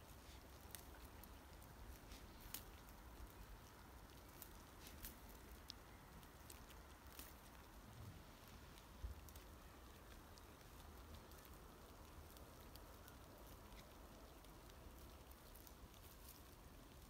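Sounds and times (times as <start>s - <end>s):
faint low rumble: 0.0s - 17.0s.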